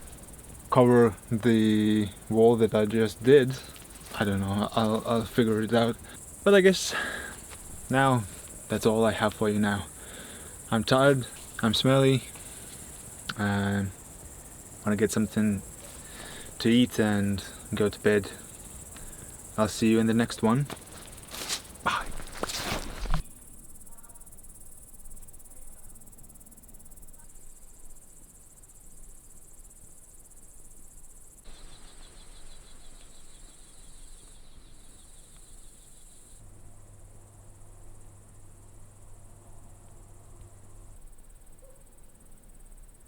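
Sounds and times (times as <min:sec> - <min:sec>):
crickets chirping: 0:00.0 - 0:43.0
low fast-pulsing insect chirp: 0:00.0 - 0:43.0.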